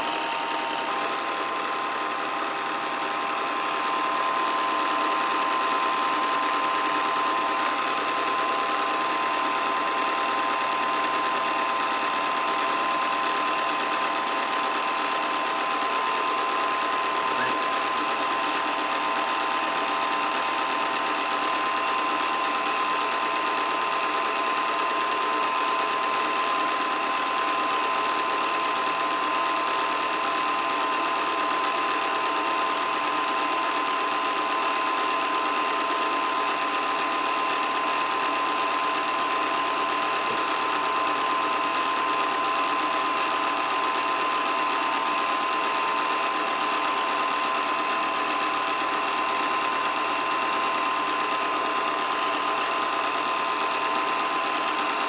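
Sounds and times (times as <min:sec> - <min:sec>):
film projector whirring: 0:00.0 - 0:55.0.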